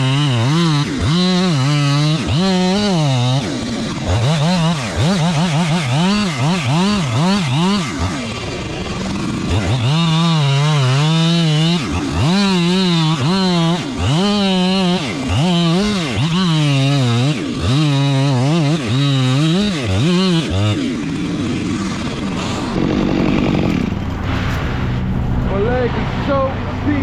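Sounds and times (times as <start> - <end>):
chainsaw revving: 0.0 - 24.9.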